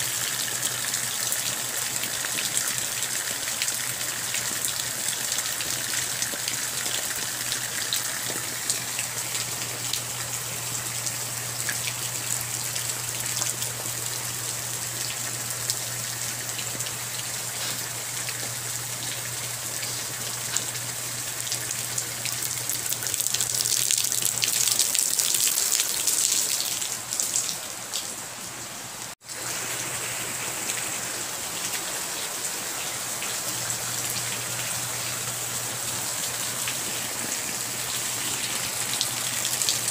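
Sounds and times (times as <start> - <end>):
rain patter on ground: 0.0 - 28.4, 29.0 - 39.9.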